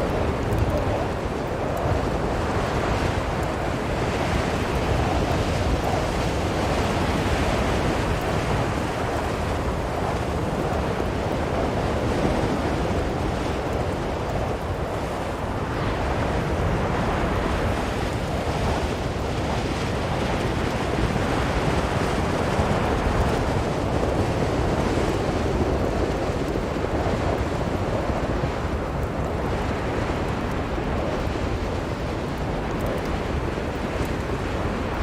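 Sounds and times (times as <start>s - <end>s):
strong blizzard wind: 0.0s - 35.0s.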